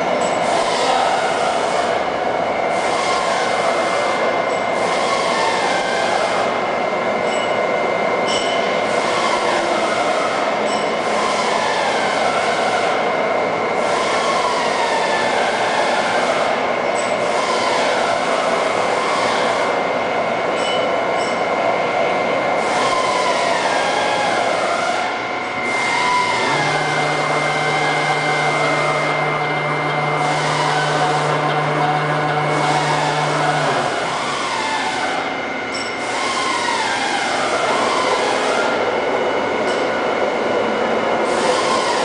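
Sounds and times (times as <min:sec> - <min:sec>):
machine whine and rumble: 0:00.0 - 0:42.0.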